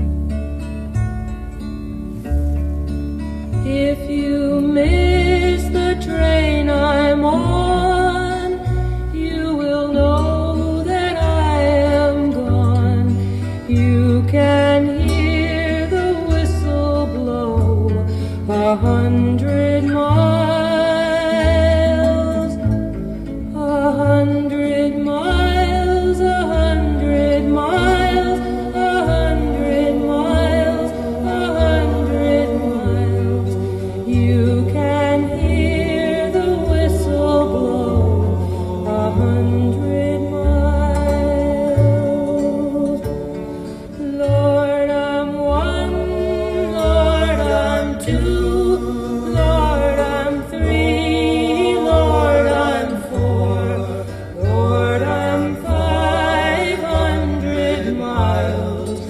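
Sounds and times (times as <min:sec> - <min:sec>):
choir-like singing: 0:03.6 - 0:22.8, 0:23.5 - 0:59.0.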